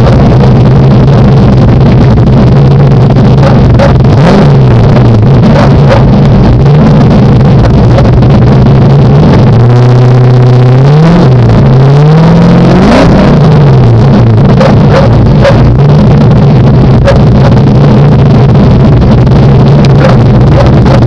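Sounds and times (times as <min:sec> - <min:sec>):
car exhaust idling and revving: 0:00.0 - 0:21.0.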